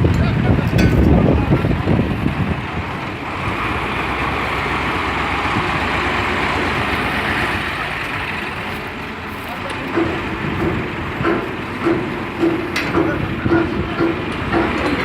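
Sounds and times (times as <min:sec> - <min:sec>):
vehicle engine running: 0:01.4 - 0:15.0.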